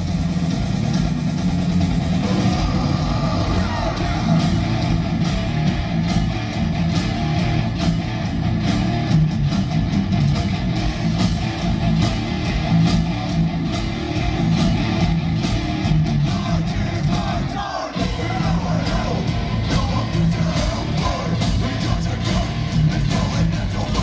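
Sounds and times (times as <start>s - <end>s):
heavy metal band playing live: 0.0s - 24.0s.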